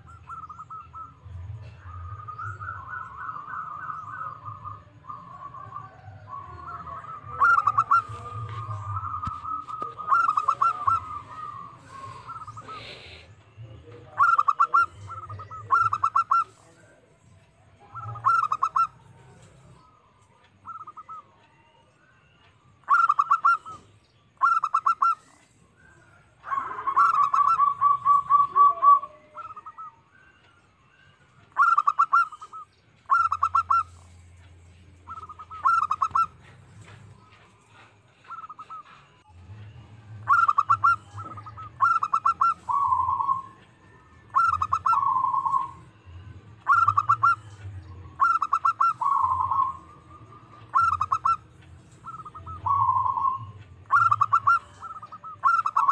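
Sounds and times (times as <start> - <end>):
dove cooing: 0.0 - 17.0, 17.8 - 21.7, 22.8 - 30.4, 31.5 - 34.2, 35.1 - 39.4, 40.1 - 55.9.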